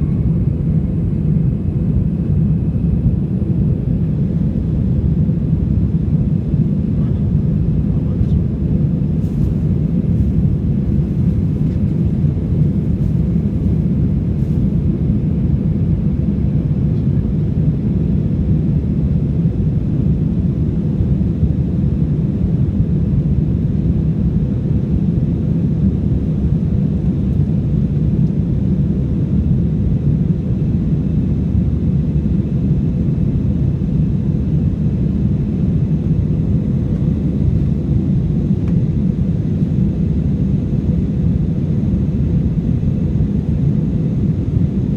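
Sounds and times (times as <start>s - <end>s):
jet engines rumbling: 0.0s - 26.7s, 28.5s - 44.9s.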